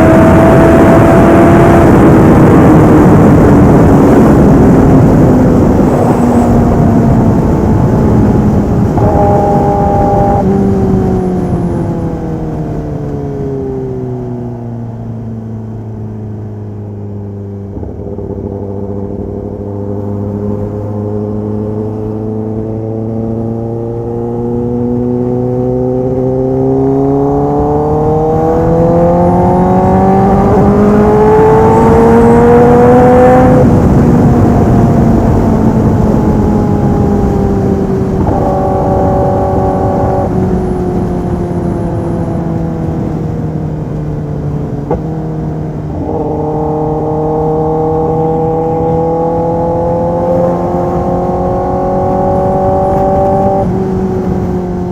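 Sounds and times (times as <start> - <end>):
motorcycle engine revving: 0.0 - 14.2, 14.9 - 54.9.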